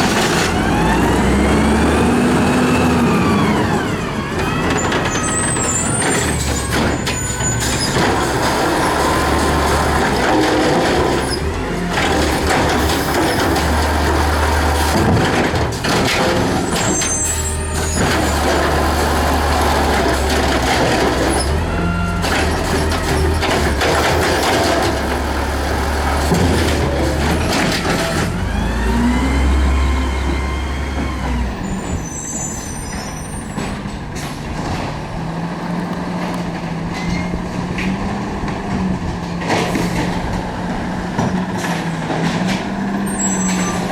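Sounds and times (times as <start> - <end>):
garbage truck engine droning: 0.0 - 43.9.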